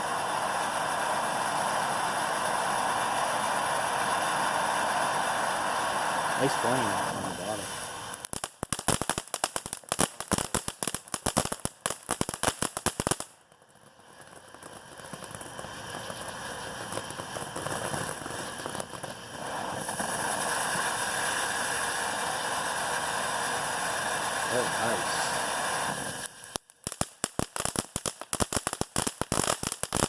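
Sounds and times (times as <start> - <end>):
firework fountain crackling: 0.0 - 30.0
firework fountain hissing: 0.0 - 30.0.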